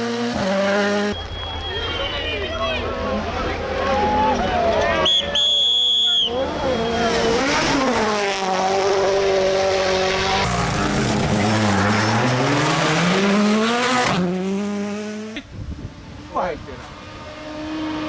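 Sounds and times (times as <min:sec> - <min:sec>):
rally car engine at full throttle: 0:00.0 - 0:02.0, 0:02.8 - 0:18.0
tyre and road noise: 0:00.0 - 0:18.0.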